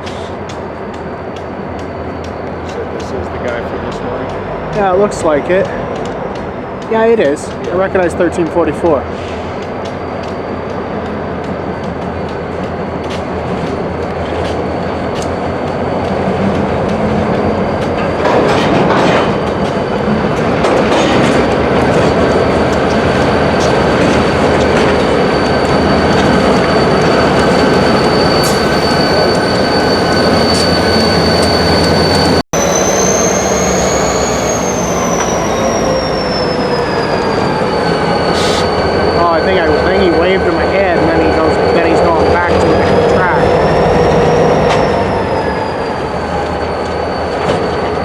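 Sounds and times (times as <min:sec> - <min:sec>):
train wheels rumbling on rail: 0:00.0 - 0:48.0
wheel flange squeal: 0:01.0 - 0:48.0.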